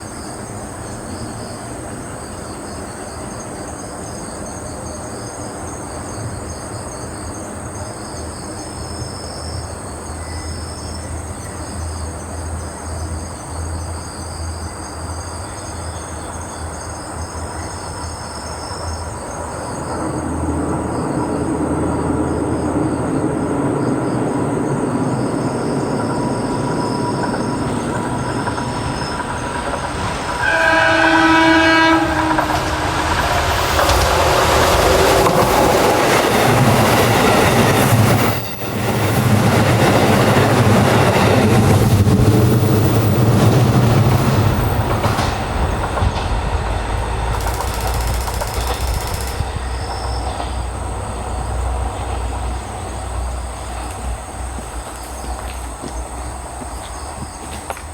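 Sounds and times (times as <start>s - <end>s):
diesel railcar rumble: 0.0s - 57.9s
insects chirring: 0.0s - 57.9s.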